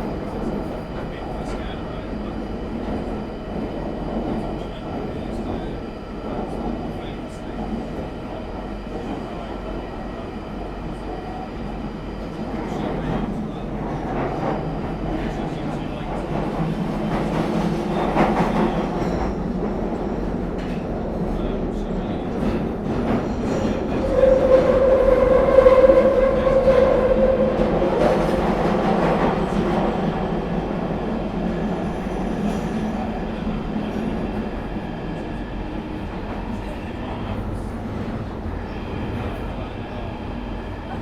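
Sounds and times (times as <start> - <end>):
high train whine: 0.0 - 41.0
train carriage rumble and rattle: 0.0 - 41.0.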